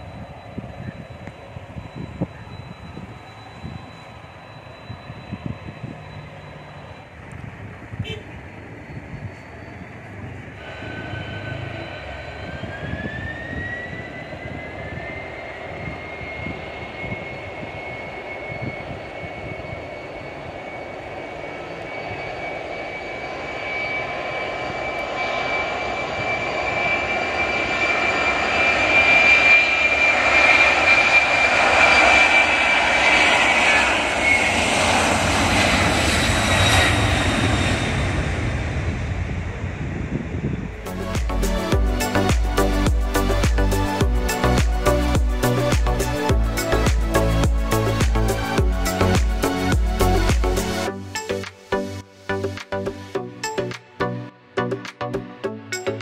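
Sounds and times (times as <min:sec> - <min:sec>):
turbofan engine noise: 0:00.0 - 0:54.0
jet engine whine: 0:00.0 - 0:56.0.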